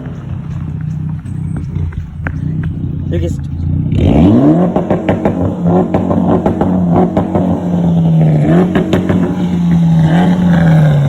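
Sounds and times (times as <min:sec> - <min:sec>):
car engine at high revs: 0:00.0 - 0:11.0
sharp exhaust crackles: 0:00.0 - 0:11.0.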